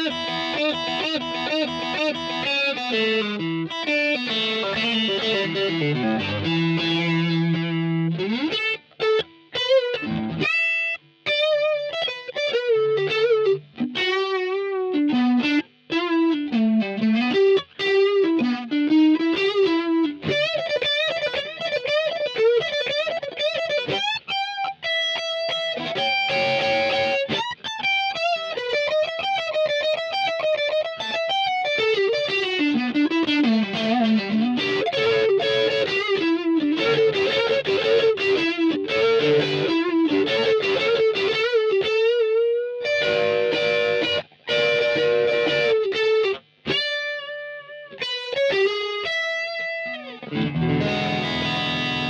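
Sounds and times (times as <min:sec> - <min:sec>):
overdriven electric guitar lead: 0:00.0 - 0:52.0.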